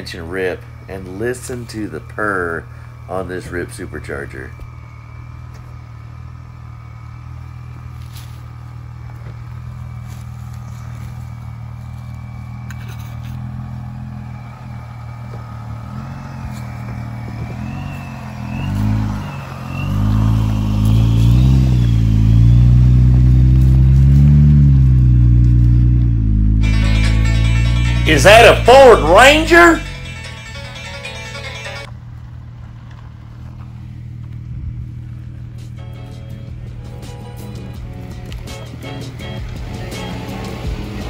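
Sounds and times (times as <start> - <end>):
supercharged engine with whine: 0.0 - 41.0.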